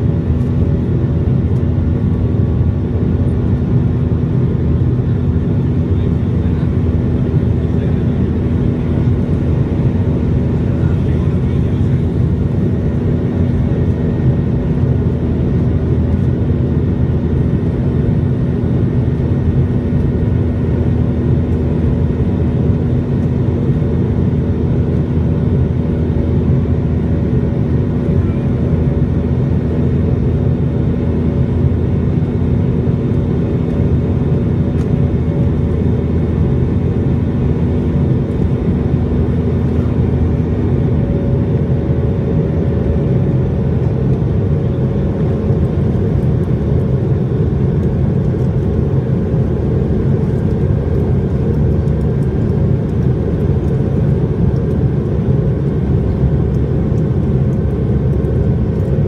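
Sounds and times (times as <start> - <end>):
airplane cabin engine drone: 0.0 - 59.0
steady hum: 0.0 - 59.0.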